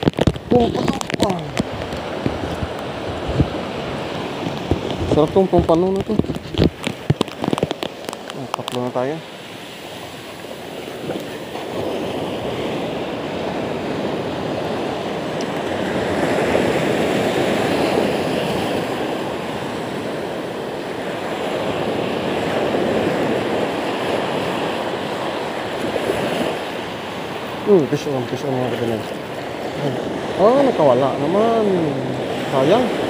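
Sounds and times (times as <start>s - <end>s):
sea surf breaking: 0.0s - 33.0s.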